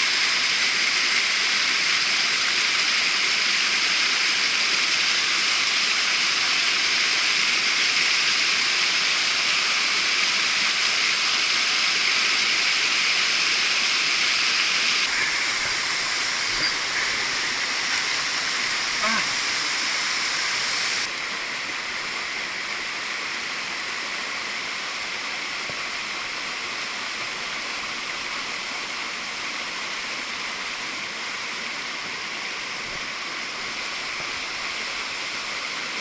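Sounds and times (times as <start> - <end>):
stream water rushing over rocks: 0.0 - 36.0.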